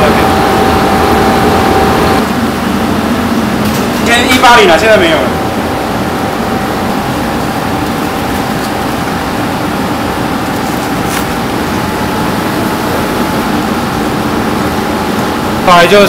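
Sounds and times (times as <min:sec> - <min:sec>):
faint constant whine: 0:00.0 - 0:16.0
ventilation air rushing: 0:00.0 - 0:16.0.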